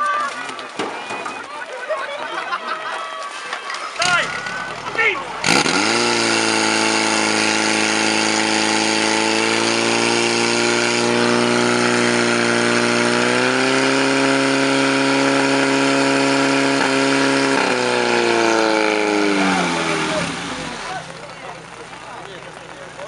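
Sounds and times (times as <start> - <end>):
pump engine droning: 4.0 - 23.0.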